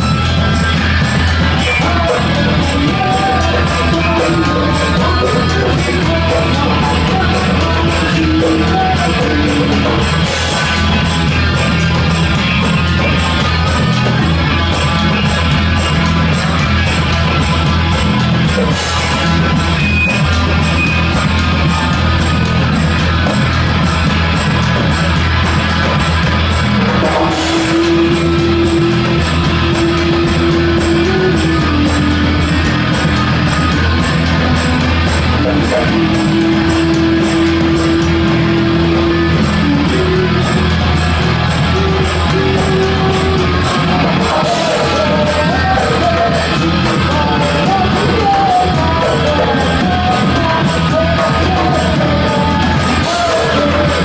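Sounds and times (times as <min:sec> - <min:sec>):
distorted electric guitars: 0:00.0 - 0:54.0
drums: 0:00.0 - 0:54.0.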